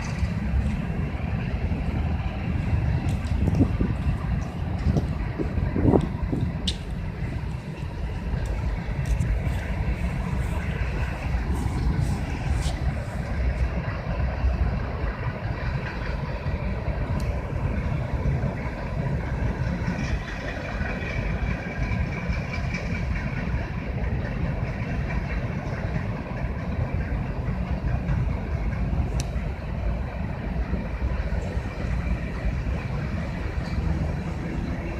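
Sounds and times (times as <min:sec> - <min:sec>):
freight train rumbling: 0:00.0 - 0:34.9.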